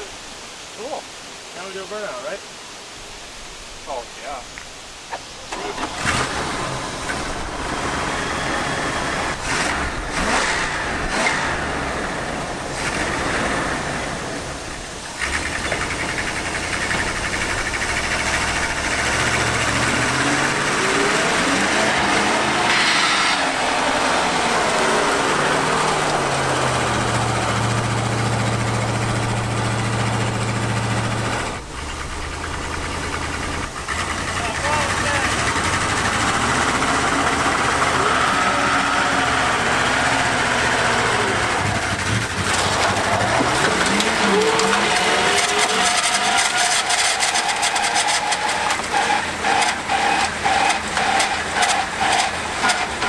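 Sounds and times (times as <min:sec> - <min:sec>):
pickup engine revving: 0:05.1 - 0:53.0.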